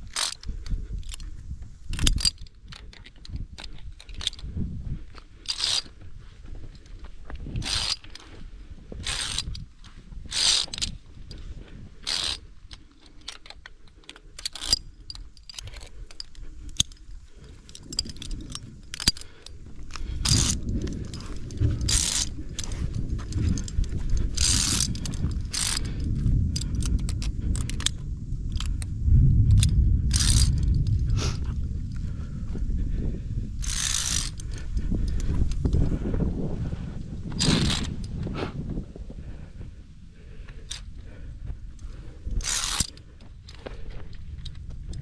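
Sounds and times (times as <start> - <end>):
carabiners clinking on steel cable: 0.0 - 6.0, 6.7 - 28.9, 29.5 - 31.5, 33.6 - 36.1, 37.2 - 38.4, 40.6 - 41.1, 41.8 - 45.0
low rumble: 0.0 - 45.0.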